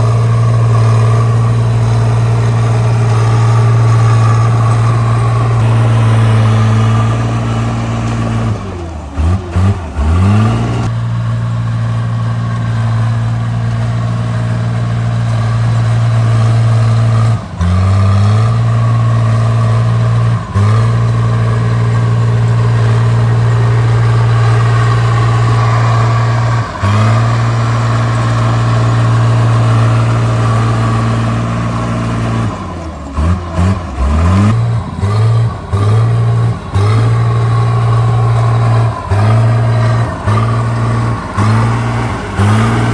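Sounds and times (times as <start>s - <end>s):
bulldozer diesel engine revving: 0.0s - 11.2s, 11.9s - 42.9s.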